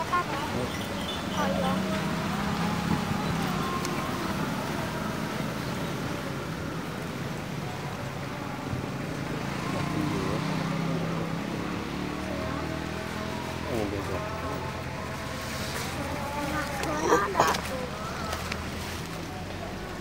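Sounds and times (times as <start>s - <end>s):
low engine hum: 0.0s - 20.0s
road traffic: 0.0s - 20.0s.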